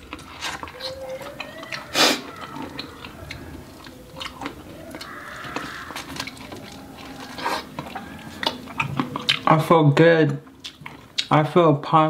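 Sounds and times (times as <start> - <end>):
chewing corn wet crunches: 0.0 - 11.5.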